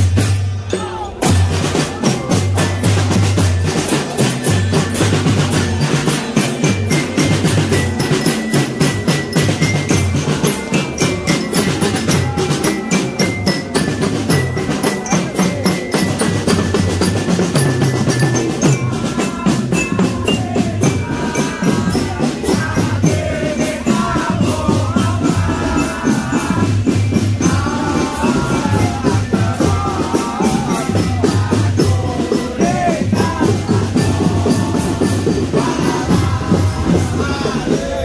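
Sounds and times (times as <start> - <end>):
snare and bass drums: 0.0 - 38.0
wavering sung melody: 0.6 - 38.0.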